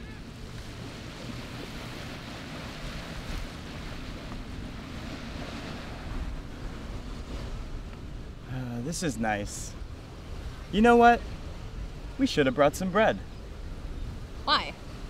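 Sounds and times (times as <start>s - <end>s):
gentle surf: 0.0s - 15.0s
wind: 0.0s - 15.0s
wind rumbling on microphone: 0.0s - 15.0s.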